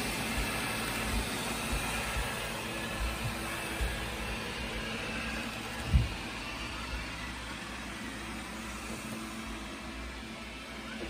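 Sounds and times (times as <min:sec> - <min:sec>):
robot vacuum whirring hum: 0:00.0 - 0:11.0.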